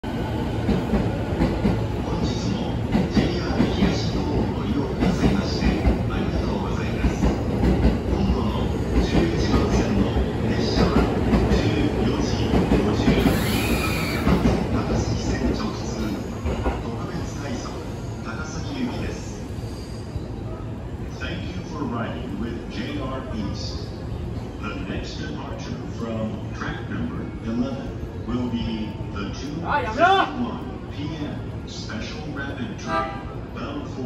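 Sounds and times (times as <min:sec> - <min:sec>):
train wheels rumbling on track: 0:00.0 - 0:34.0.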